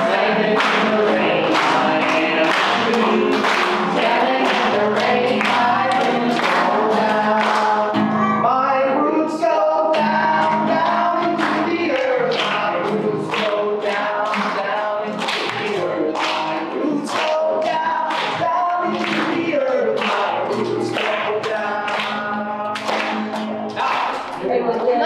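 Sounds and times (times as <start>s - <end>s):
song with singing over beat: 0.0s - 25.0s.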